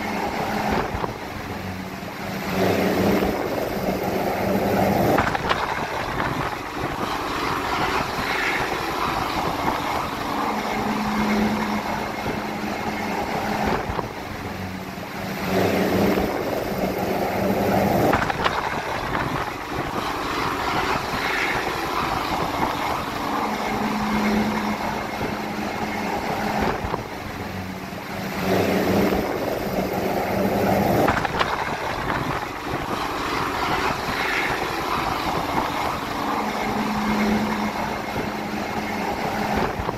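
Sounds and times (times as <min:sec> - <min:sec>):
helicopter hovering: 0:00.0 - 0:39.9.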